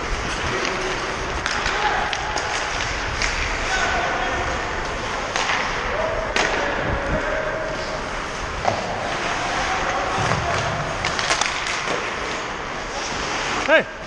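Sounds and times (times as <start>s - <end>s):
hockey sticks and puck clacking: 0.0s - 14.0s
skates scraping ice: 0.0s - 14.0s.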